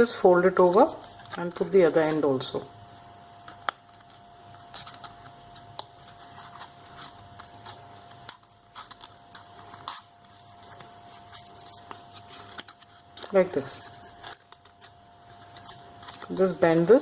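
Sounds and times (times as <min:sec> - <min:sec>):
paper rustling and crinkling: 0:00.3 - 0:02.5, 0:03.5 - 0:17.0.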